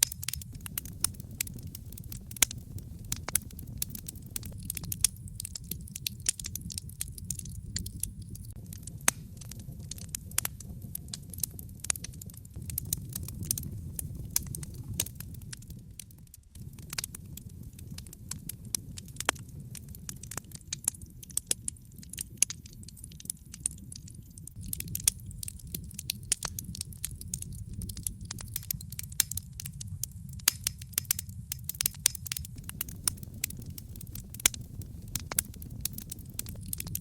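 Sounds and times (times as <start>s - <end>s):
fire crackling and popping: 0.0s - 37.0s.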